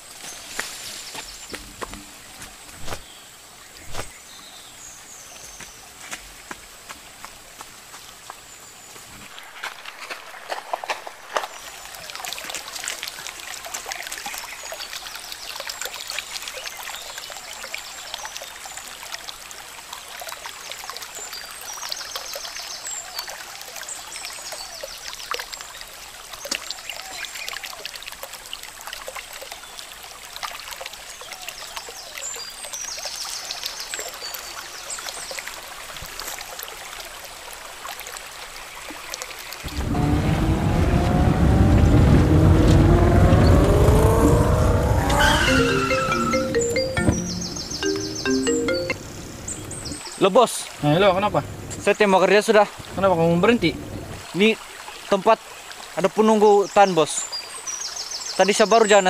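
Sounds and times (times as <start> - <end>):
stream trickling over pebbles: 0.0 - 45.0, 47.1 - 59.0.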